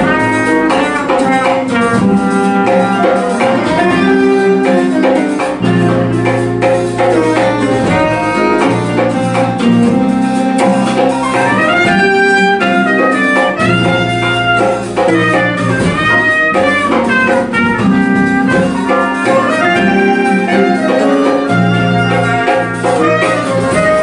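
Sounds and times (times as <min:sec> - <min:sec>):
horn melody: 0:00.0 - 0:24.0
jazz band playing: 0:00.0 - 0:24.0.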